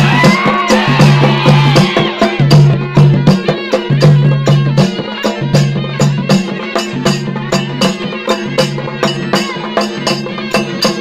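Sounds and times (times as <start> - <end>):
quick drum strokes: 0.0 - 11.0.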